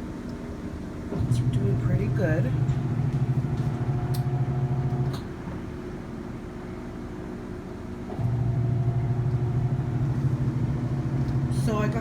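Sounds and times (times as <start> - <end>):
washing machine spin hum: 0.0 - 12.0.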